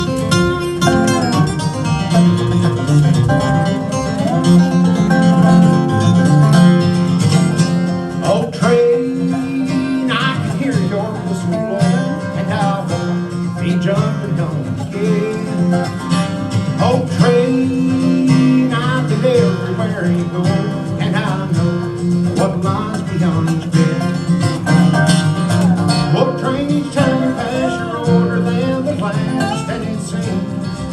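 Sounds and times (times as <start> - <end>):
acoustic guitar: 0.0 - 30.9
dobro sliding between notes: 0.0 - 30.9.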